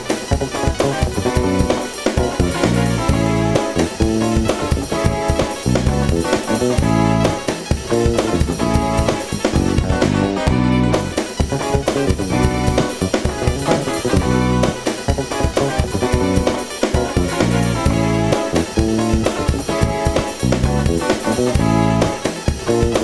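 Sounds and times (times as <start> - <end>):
drum kit beat: 0.0 - 23.0
sustained pitched notes: 0.0 - 23.0.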